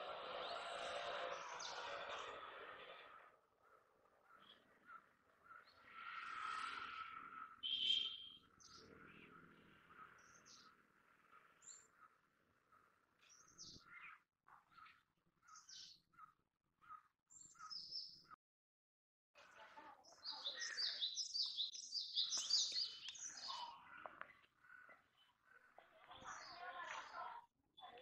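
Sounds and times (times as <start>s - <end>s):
small birds chirping: 0.3s - 18.4s, 19.4s - 28.0s.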